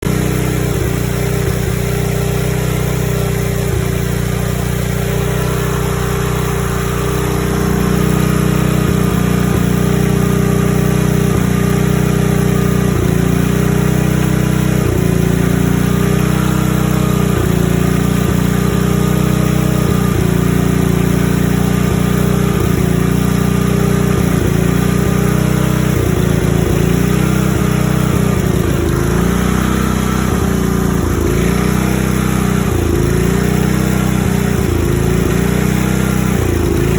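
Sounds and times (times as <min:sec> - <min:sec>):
generator engine running: 0:00.0 - 0:36.9.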